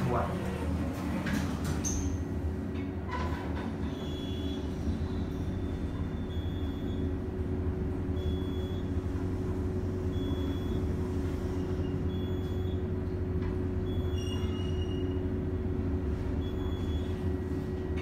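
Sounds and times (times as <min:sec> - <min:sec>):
elevator rumble and hum: 0:00.0 - 0:18.0.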